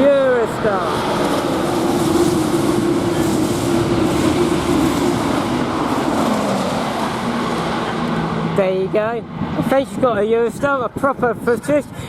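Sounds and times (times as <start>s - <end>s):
high-speed train passing: 0.0s - 12.0s.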